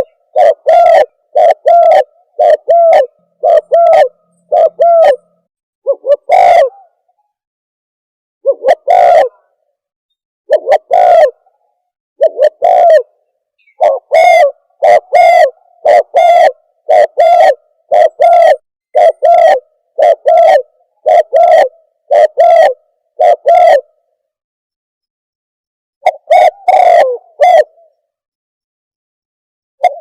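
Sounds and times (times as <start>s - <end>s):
dove cooing: 0.0s - 7.4s, 8.4s - 9.6s, 10.5s - 24.0s, 26.0s - 28.0s, 29.8s - 30.0s.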